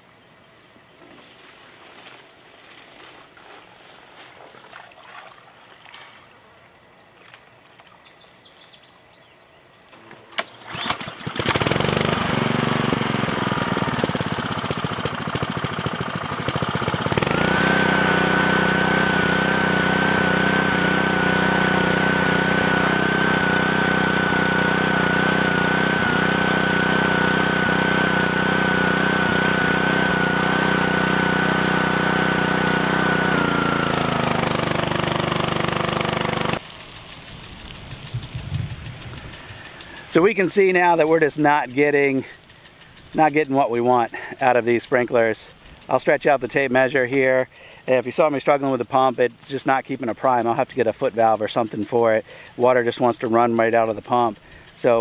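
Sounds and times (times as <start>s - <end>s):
small engine pull-start: 9.9s - 55.0s
water pump engine running: 9.9s - 55.0s.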